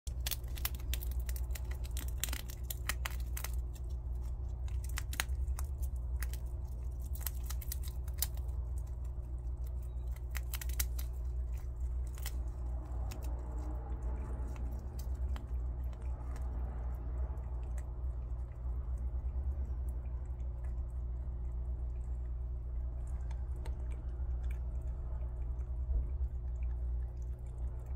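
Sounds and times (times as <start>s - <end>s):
steady low hum: 0.0s - 27.9s
prairie dogs crunching nuts: 0.1s - 27.9s.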